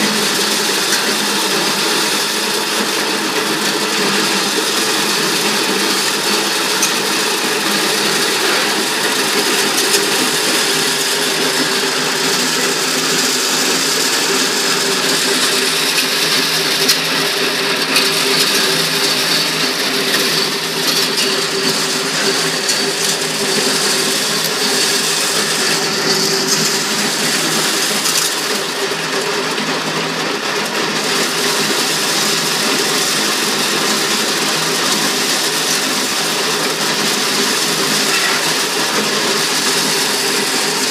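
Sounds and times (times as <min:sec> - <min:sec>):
corn sheller whirring: 0:00.0 - 0:40.9.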